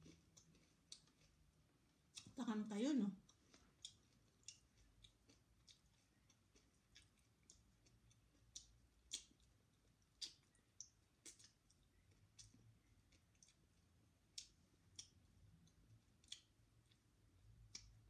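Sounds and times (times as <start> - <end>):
person chewing with wet clicks: 0.0 - 2.4, 3.2 - 18.0.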